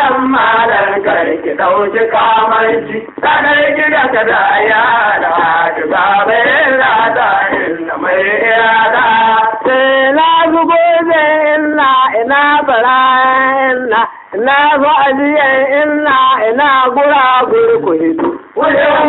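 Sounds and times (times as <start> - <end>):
man singing chant-like song: 0.0 - 19.0.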